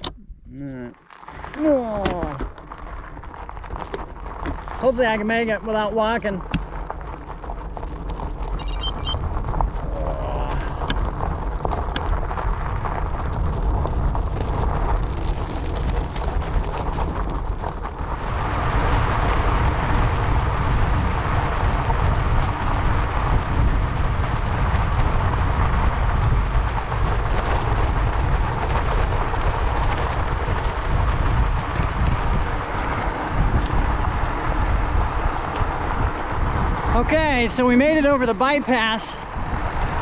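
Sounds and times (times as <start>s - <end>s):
bicycle tyres rolling on dirt: 0.0s - 40.0s
wind buffeting microphone: 1.4s - 40.0s.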